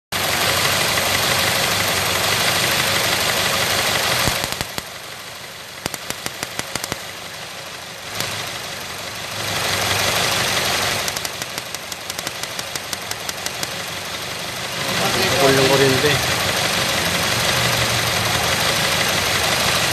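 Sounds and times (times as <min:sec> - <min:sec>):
engine hiss: 0:00.2 - 0:19.9
rapid regular engine ticking: 0:00.2 - 0:19.9.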